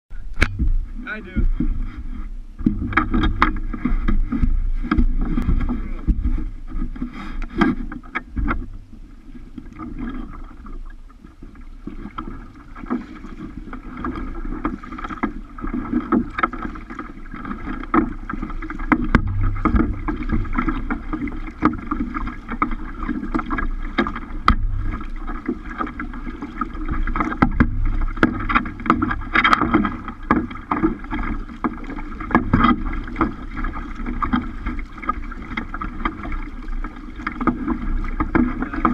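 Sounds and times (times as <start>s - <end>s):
water lapping against kayak hull: 0.1s - 38.9s.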